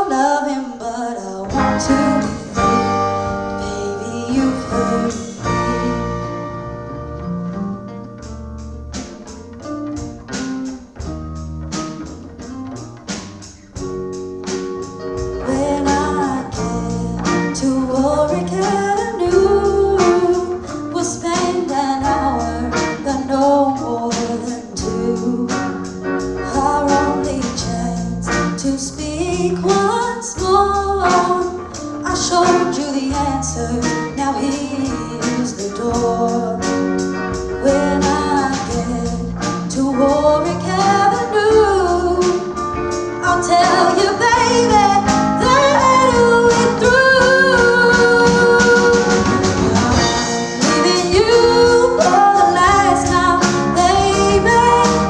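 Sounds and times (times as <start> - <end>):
woman singing: 0.0 - 6.7, 15.3 - 37.0, 37.6 - 55.0
live rock band playing: 1.3 - 55.0.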